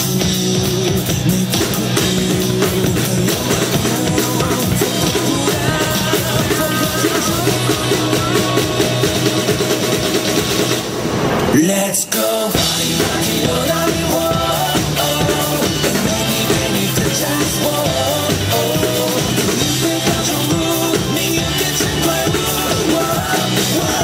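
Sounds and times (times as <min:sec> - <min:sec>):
drum kit played live: 0:00.0 - 0:11.6, 0:12.5 - 0:24.0
loud rock backing track: 0:00.0 - 0:24.0.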